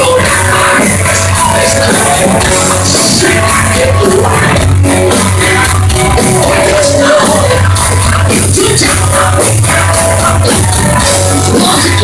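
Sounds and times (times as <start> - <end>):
hard rock band playing live: 0.0 - 12.0.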